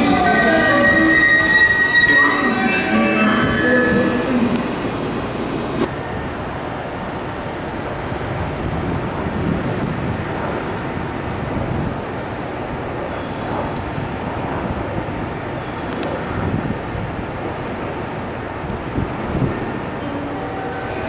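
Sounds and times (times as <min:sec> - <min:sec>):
train rumble and hiss: 0:00.0 - 0:21.0.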